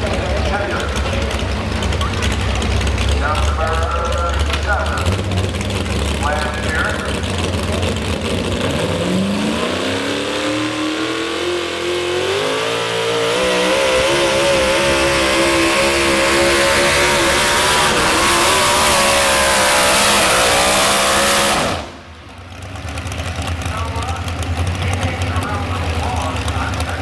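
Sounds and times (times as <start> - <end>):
truck engine at full throttle: 0.0 - 27.0.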